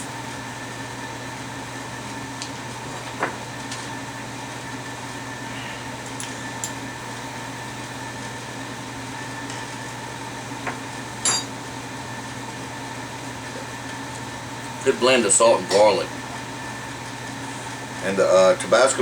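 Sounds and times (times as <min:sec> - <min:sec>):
appliance hum: 0:00.0 - 0:19.0.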